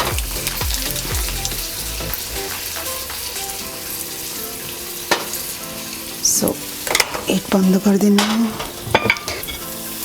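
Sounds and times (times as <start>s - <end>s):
chillies sizzling in hot oil: 0.0s - 10.0s.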